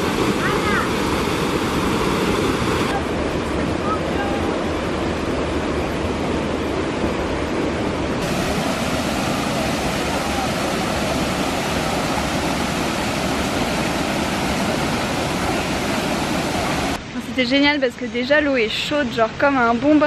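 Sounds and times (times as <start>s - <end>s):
waterfall rushing into pool: 0.0s - 17.1s.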